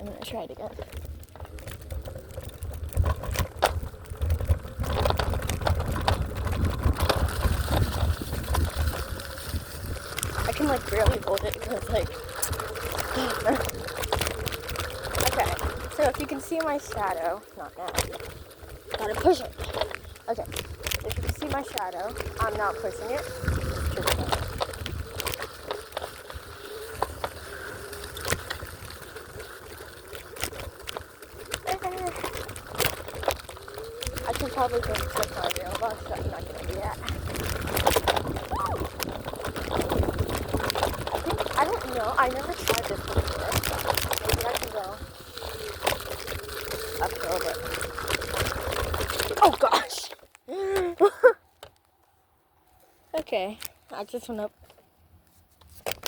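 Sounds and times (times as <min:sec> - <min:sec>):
scooter wheels rumbling on rocks: 0:00.0 - 0:56.0.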